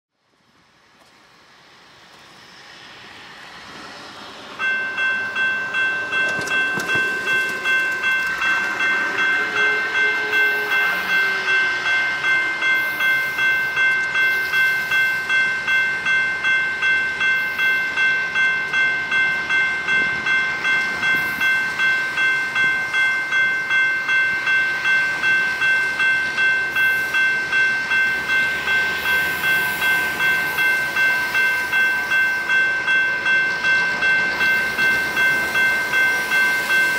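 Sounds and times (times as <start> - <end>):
faint low train rumble: 0.2 - 36.9
crossing warning bell ringing: 4.5 - 36.9.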